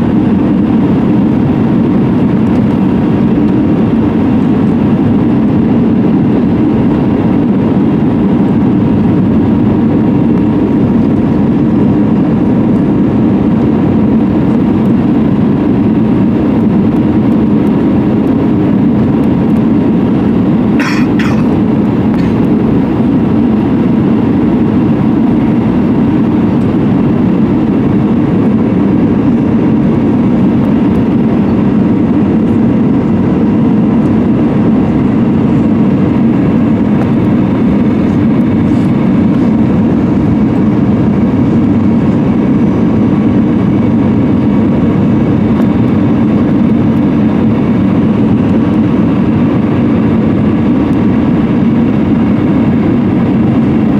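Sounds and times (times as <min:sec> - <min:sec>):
airplane engine and airflow rumble: 0:00.0 - 0:53.9.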